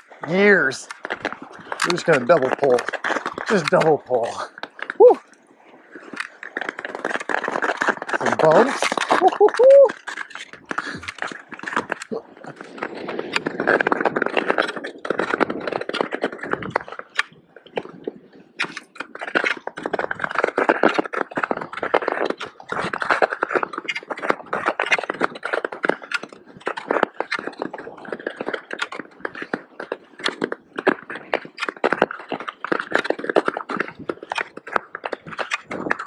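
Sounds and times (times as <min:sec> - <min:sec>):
ice skate blades scraping ice: 0:00.0 - 0:36.0.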